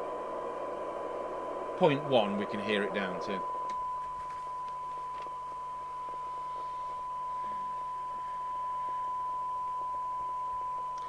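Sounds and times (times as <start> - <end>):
steady test tone from radio speaker: 0.0 - 11.0.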